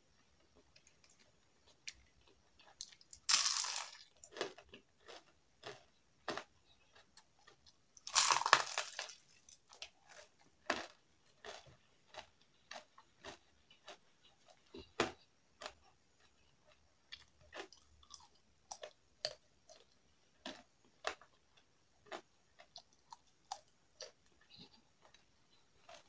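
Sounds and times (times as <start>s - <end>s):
crackling chewing: 0.2s - 26.0s
crunchy bites of fried chicken: 0.8s - 24.7s.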